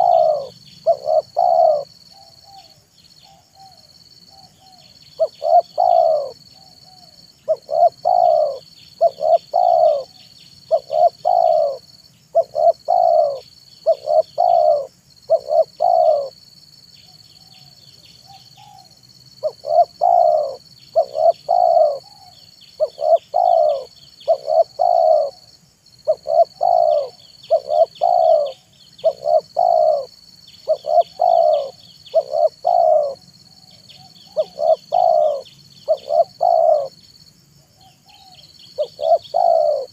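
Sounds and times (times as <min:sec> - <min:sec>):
dove cooing: 0:00.0 - 0:16.4, 0:17.4 - 0:37.0, 0:37.7 - 0:39.9
faint chirps: 0:00.0 - 0:39.9.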